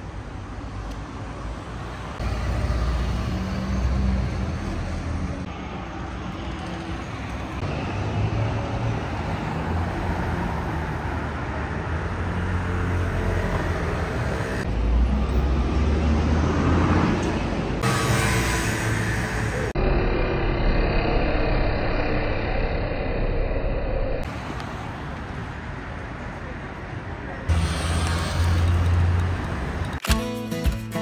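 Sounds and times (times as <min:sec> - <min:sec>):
cars driving by: 0:00.0 - 0:20.1, 0:22.1 - 0:30.1
engine rumble and tyre noise: 0:00.0 - 0:30.0.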